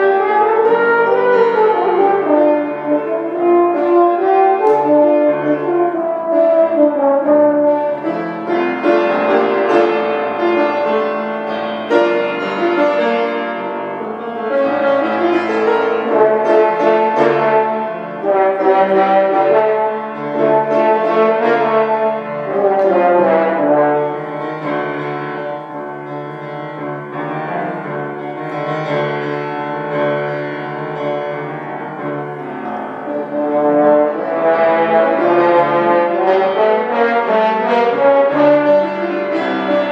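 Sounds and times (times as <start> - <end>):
brass instrumental music: 0.0 - 39.9.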